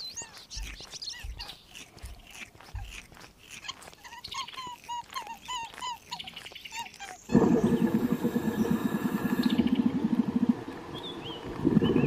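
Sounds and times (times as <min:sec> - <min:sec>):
rabbit nibbling: 0:00.0 - 0:09.8.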